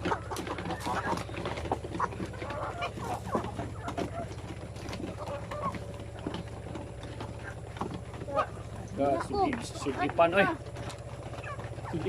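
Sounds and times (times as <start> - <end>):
chickens clucking: 0.0 - 12.0
steady low hum: 0.0 - 12.0.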